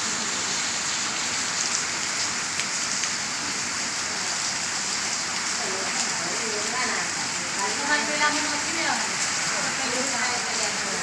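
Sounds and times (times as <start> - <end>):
patter of raindrops: 0.0 - 11.0
rain falling: 0.0 - 11.0.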